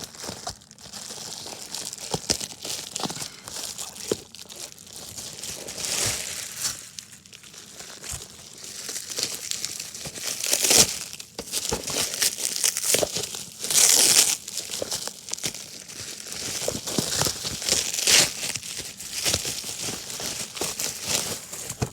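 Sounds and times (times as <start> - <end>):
packaging crinkling and rustling: 0.0 - 21.9
packaging tearing: 0.0 - 21.9.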